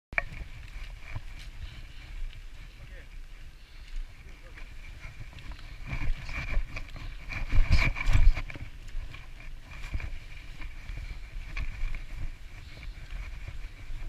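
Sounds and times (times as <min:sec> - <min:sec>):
bike rattling: 0:00.2 - 0:14.0
bike tyre rumble: 0:00.2 - 0:14.0
wind on microphone: 0:00.2 - 0:14.0.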